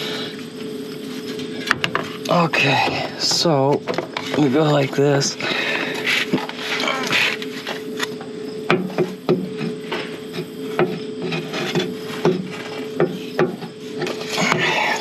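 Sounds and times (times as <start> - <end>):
faint steady hum: 0.0 - 15.0
hand tools clicking and scraping: 0.9 - 15.0.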